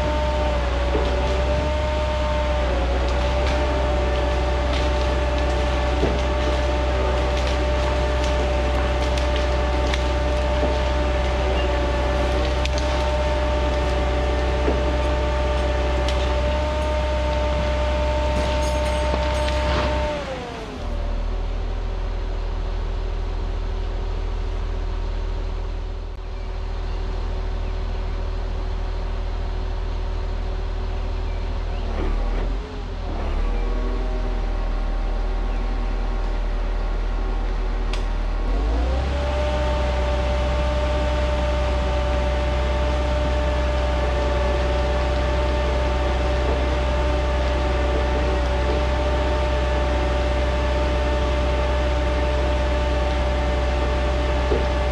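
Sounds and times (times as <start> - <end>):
diesel engine running and revving: 0.0 - 54.9.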